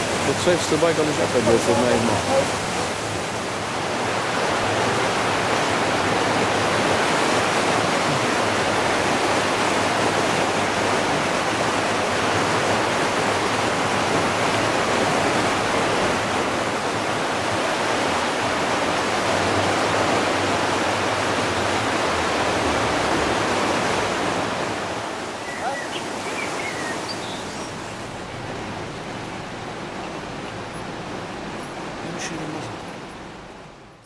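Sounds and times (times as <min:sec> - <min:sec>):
flooded river rushing: 0:00.0 - 0:34.0.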